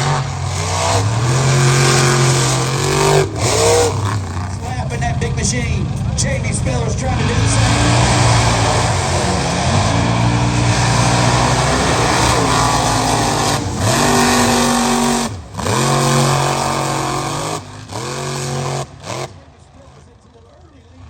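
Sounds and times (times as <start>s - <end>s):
truck engine revving: 0.0s - 20.3s.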